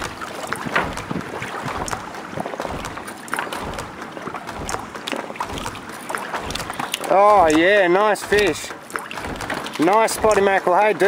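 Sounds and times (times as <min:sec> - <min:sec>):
water splashing around kayak: 0:00.0 - 0:11.0.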